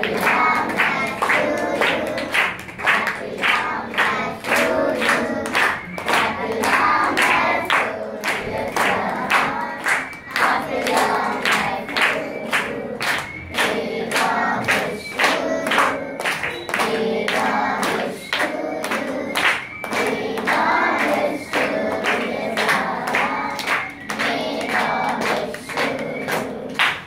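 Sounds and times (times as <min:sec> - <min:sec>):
group singing: 0:00.0 - 0:27.0
people clapping in time: 0:00.0 - 0:27.0.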